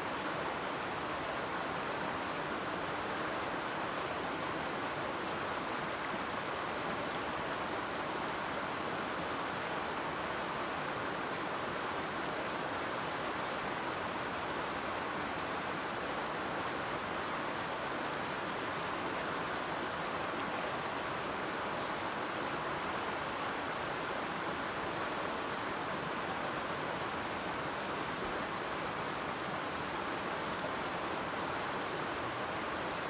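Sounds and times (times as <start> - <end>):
river flowing over stones: 0.0 - 33.0.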